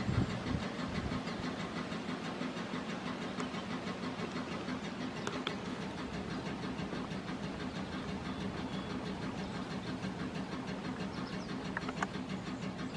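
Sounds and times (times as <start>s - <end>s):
low electrical hum: 0.0s - 12.9s
relay clicking rapidly: 0.0s - 12.9s.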